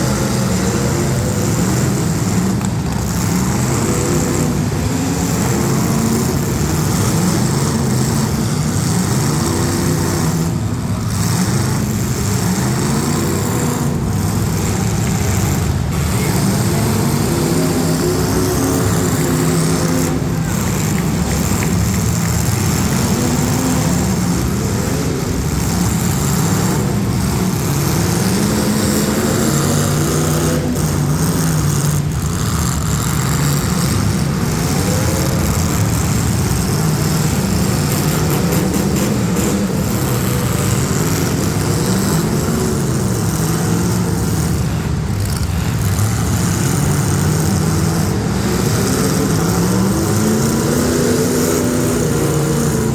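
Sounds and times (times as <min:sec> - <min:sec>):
car engines revving: 0:00.0 - 0:52.9.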